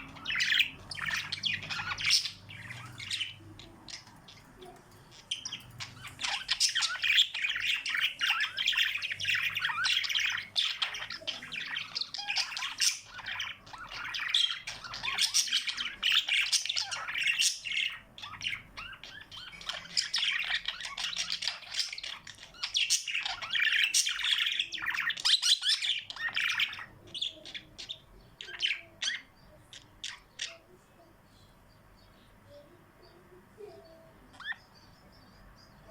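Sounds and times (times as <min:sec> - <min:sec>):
cage birds chirping: 0:00.0 - 0:35.9.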